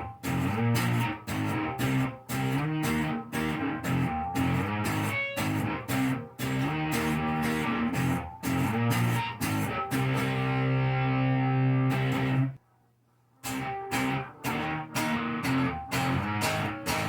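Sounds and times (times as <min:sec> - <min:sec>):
choppy strummed guitar chords: 0:00.0 - 0:12.6, 0:13.4 - 0:17.0
electric guitar chord ringing: 0:00.0 - 0:12.6, 0:13.4 - 0:17.0.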